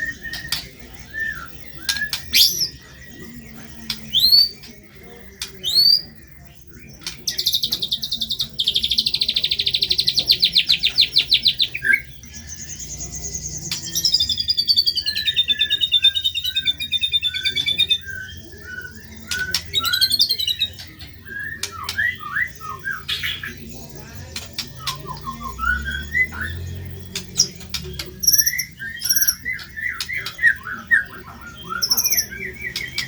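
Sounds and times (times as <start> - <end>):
bird singing trills and chirps: 0.0 - 33.0.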